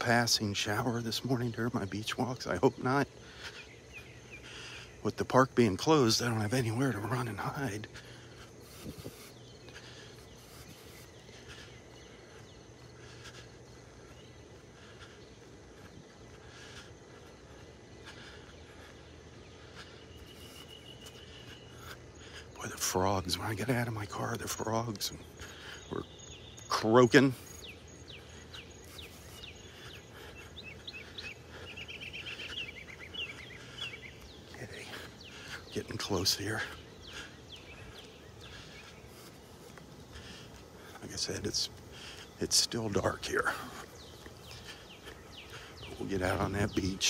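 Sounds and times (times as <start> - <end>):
birds chirping: 0.0 - 47.0
faint outdoor background: 0.0 - 47.0
frogs calling: 0.0 - 47.0.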